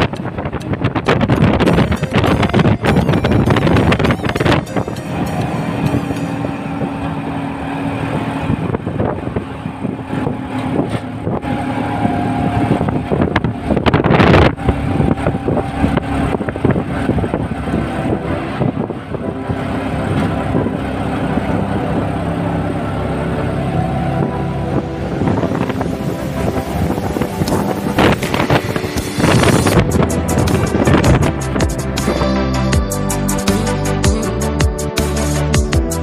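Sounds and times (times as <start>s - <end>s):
auto-rickshaw engine running: 0.0s - 36.0s
road and wind noise: 0.0s - 36.0s.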